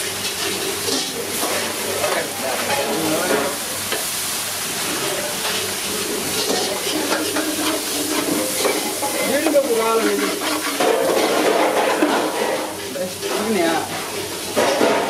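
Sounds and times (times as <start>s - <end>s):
food sizzling in a pan: 0.0s - 15.0s
stirring scrapes and knocks: 0.2s - 4.0s, 4.9s - 15.0s.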